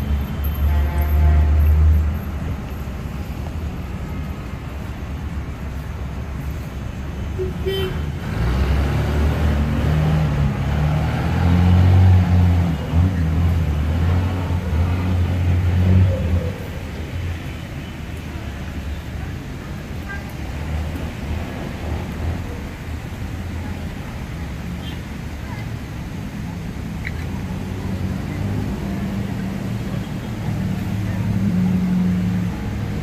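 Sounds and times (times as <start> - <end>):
street traffic passing: 0.0 - 33.0.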